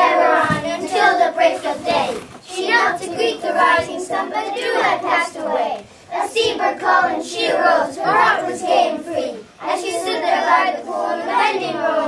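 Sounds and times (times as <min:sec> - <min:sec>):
young children singing: 0:00.0 - 0:12.0.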